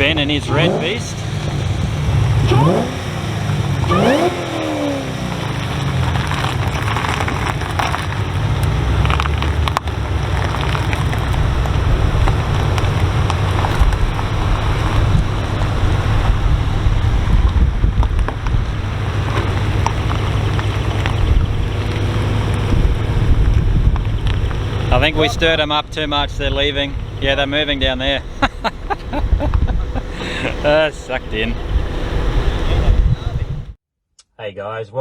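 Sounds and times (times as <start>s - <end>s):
car engine rumble: 0.0s - 33.8s
wind buffeting microphone: 0.0s - 33.8s.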